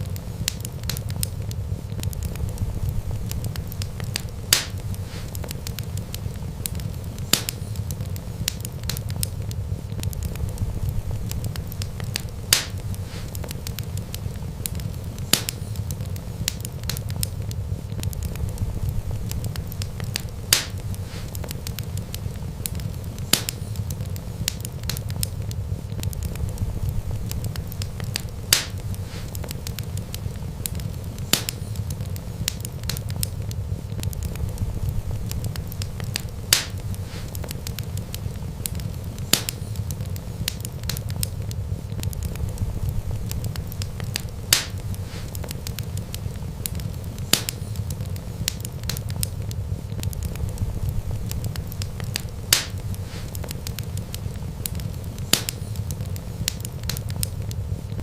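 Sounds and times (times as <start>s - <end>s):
sharp pops from fire: 0.0s - 58.0s
wood fire crackling: 0.0s - 58.0s.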